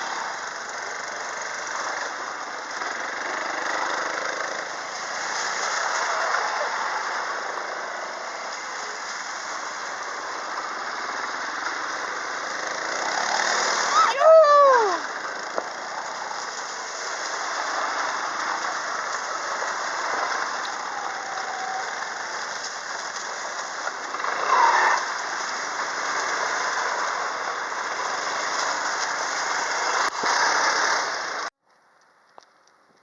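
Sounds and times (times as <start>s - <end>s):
quad bike engine running: 0.0s - 31.5s
constant rushing noise: 0.0s - 31.6s.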